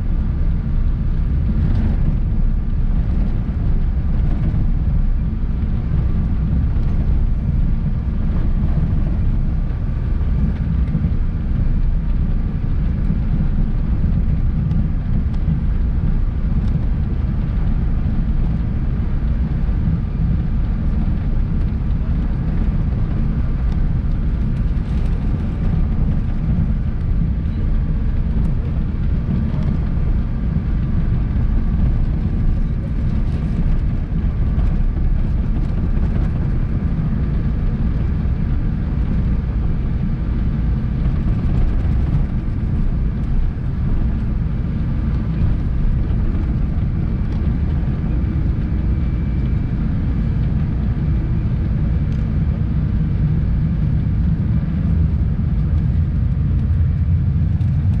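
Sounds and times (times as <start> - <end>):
airliner engines rumbling: 0.0 - 58.0
faint whine: 0.0 - 58.0.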